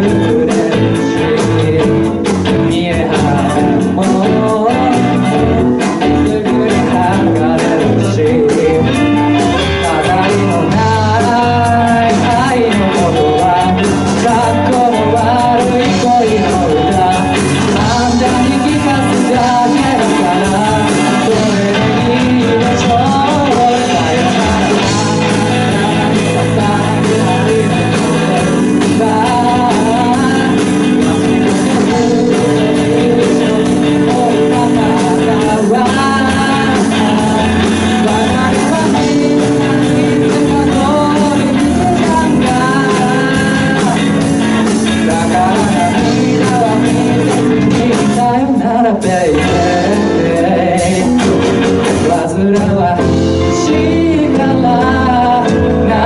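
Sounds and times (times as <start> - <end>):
keyboard: 0.0 - 56.0
person singing: 0.0 - 56.0
steady beat: 0.0 - 56.0.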